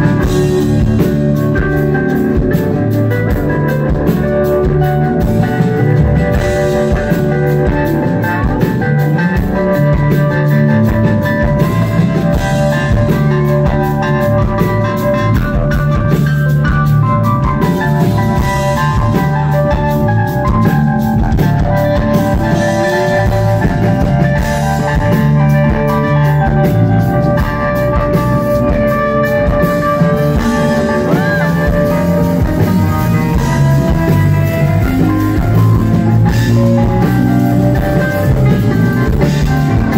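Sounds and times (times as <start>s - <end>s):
held organ chords: 0.0s - 39.9s
rock band playing live: 0.0s - 39.9s.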